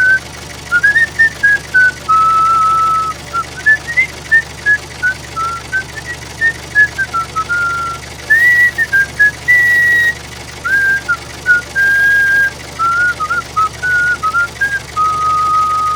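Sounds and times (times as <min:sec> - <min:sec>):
person whistling a tune: 0:00.0 - 0:15.9.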